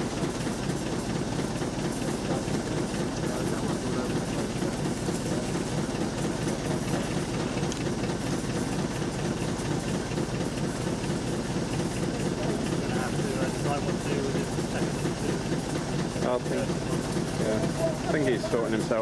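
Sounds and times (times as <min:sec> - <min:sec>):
steam boat engine running: 0:00.0 - 0:19.0.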